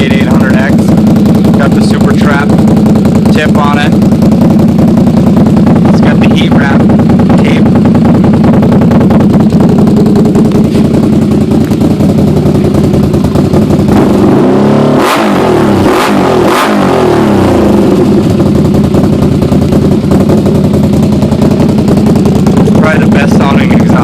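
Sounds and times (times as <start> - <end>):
engine idling with throttle blips: 0.0 - 24.0.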